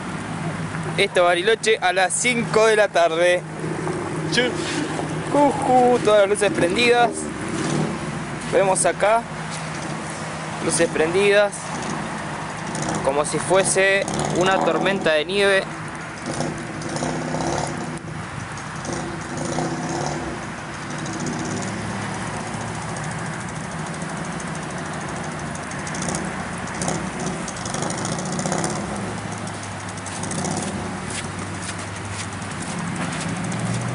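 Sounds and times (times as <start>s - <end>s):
constant rushing noise: 0.0s - 33.9s
vehicle engine running: 0.0s - 33.9s.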